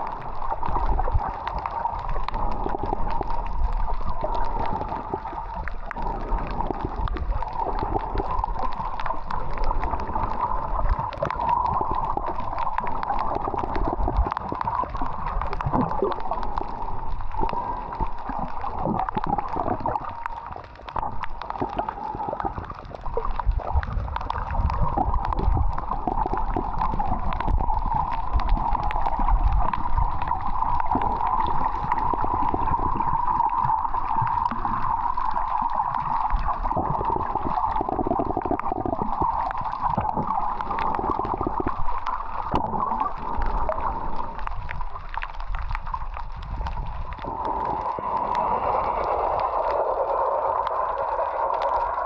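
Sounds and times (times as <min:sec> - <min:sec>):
water sloshing and gurgling: 0:00.0 - 0:52.0.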